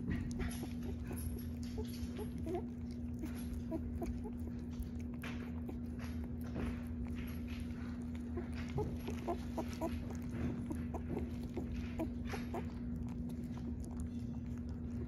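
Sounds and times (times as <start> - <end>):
puppy lapping and smacking: 0.0 - 15.0
steady low hum: 0.0 - 15.0.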